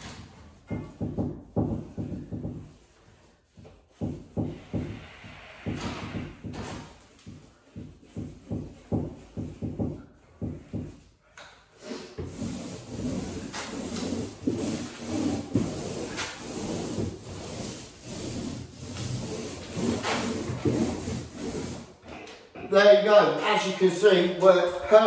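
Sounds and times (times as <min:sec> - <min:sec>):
paint roller wet rubbing: 0:00.0 - 0:11.2, 0:11.8 - 0:22.2.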